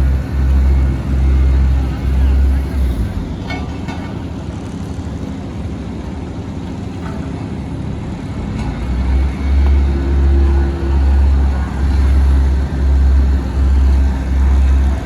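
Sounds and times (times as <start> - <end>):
road roller engine rumble: 0.0 - 15.0.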